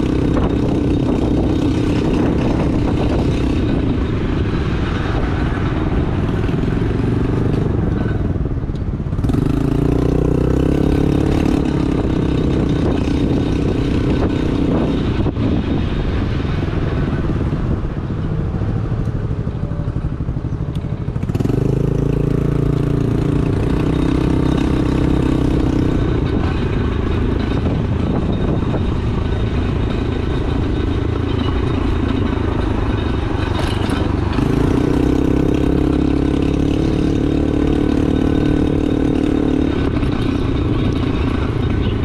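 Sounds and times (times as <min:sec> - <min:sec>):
motorbike engine running: 0:00.0 - 0:16.2, 0:16.8 - 0:42.0.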